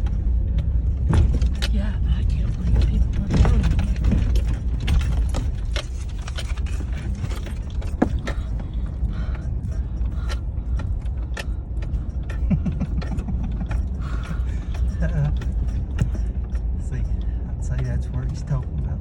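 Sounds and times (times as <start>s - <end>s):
vehicle engine and road rumble: 0.0s - 19.0s
vehicle knocks and rattles: 0.0s - 19.0s.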